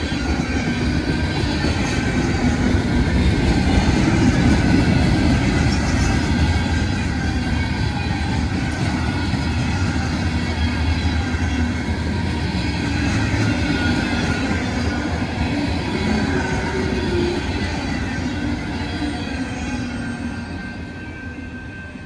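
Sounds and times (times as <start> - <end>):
freight train rumbling by: 0.0 - 22.0.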